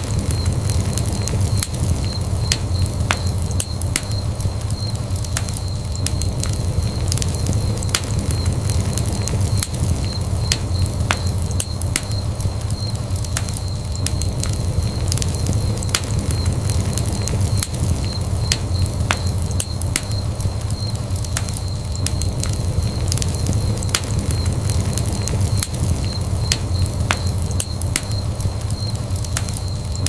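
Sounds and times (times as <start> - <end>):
burning wood crackling and popping: 0.0 - 30.0
fire rumbling: 0.0 - 30.0.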